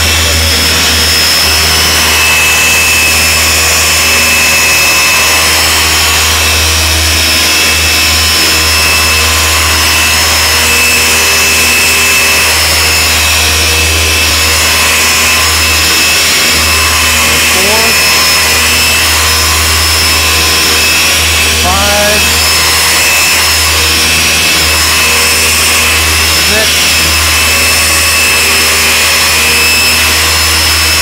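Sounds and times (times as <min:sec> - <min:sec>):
orbital polisher running: 0:00.0 - 0:31.0.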